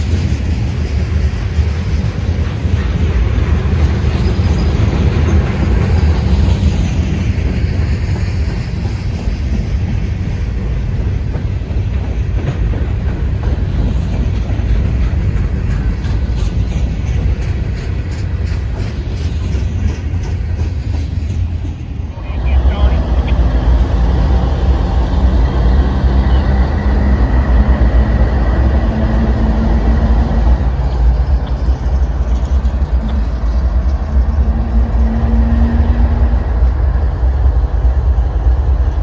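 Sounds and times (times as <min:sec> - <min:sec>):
wheels clicking over rail joints: 0:00.0 - 0:22.4, 0:25.2 - 0:39.0
freight train rumbling: 0:00.0 - 0:39.0.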